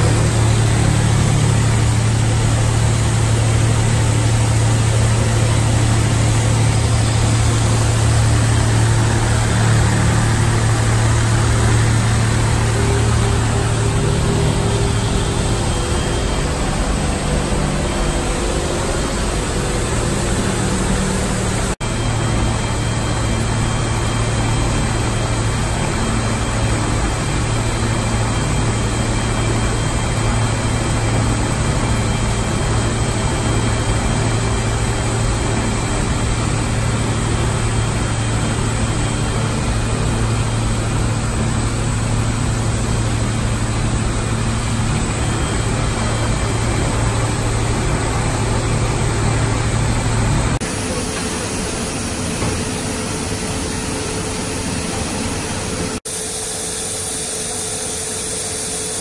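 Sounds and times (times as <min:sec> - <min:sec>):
machine hum and hiss: 0:00.0 - 0:59.0.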